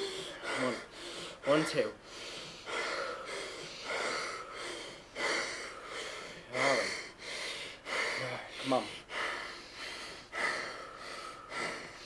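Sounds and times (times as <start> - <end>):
man breathing hard in gasps: 0.0 - 12.0.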